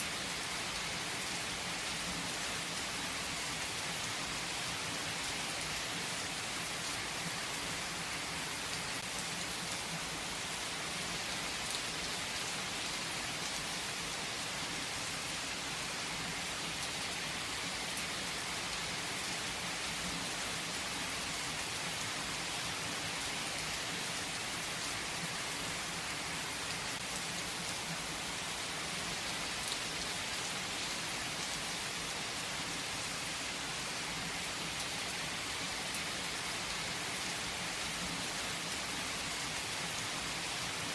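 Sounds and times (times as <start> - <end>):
heavy rain on a tree: 0.0 - 40.9.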